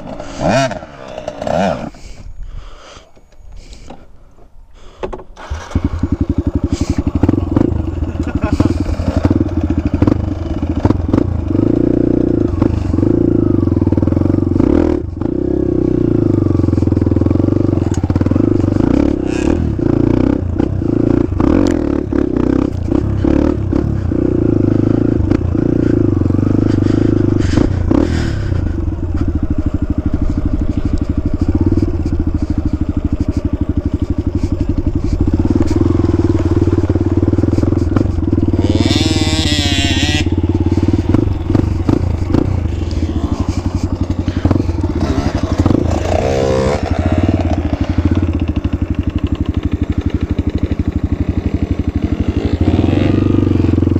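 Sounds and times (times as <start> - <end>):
dirt bike engine running hard: 4.8 - 53.9.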